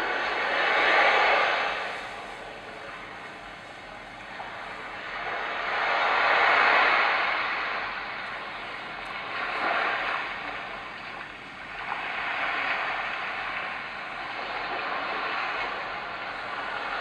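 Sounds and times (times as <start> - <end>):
sound machine surf noise: 0.0 - 17.0.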